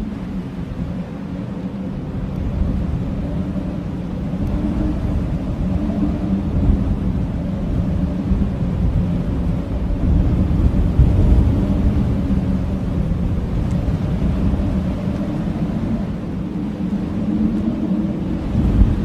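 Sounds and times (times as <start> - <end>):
blizzard wind howling: 0.0 - 19.0.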